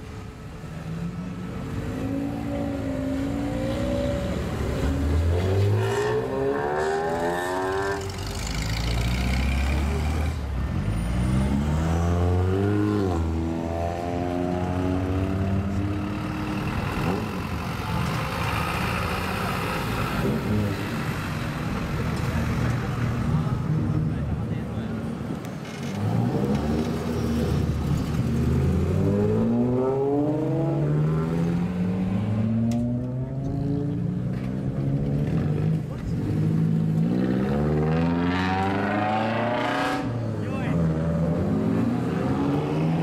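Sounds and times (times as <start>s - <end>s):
car engines revving and accelerating: 0.0s - 43.0s.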